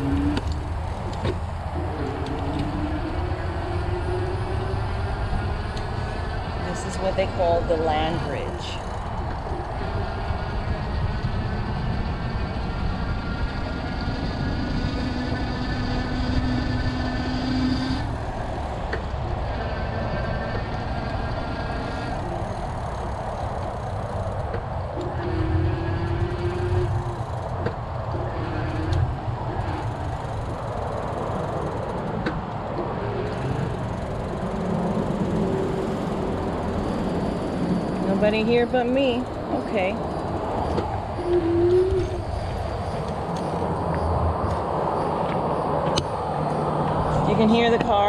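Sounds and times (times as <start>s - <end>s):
e-bike rumble on asphalt: 0.0s - 48.0s
highway traffic: 0.0s - 48.0s
wind on microphone: 0.0s - 48.0s.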